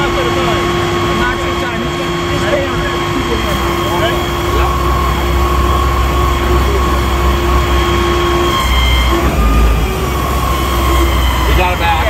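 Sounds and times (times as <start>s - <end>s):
fire engine pump rumbling: 0.0s - 12.0s
high whine: 0.0s - 12.0s.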